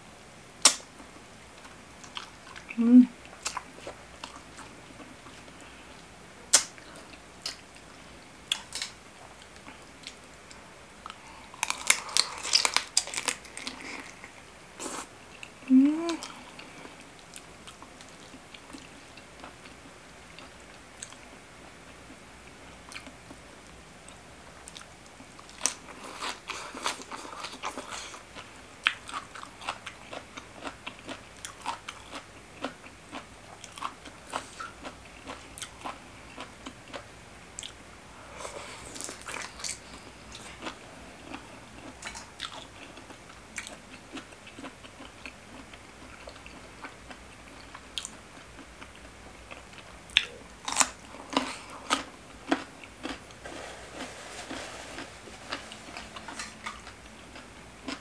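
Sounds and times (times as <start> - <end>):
crunchy chewing close-up: 6.5 - 22.1, 22.9 - 58.0.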